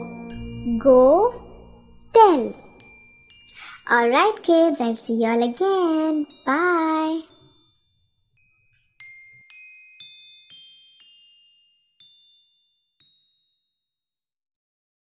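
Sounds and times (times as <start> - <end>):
bell-like music jingle: 0.0 - 14.1.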